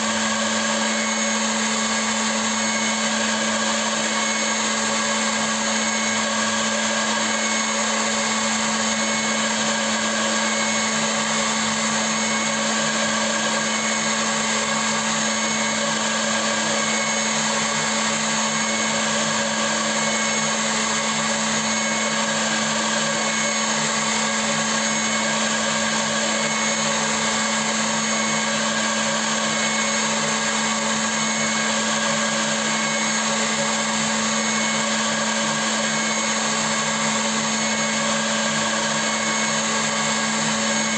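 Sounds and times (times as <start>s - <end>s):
milling machine running: 0.0s - 40.9s.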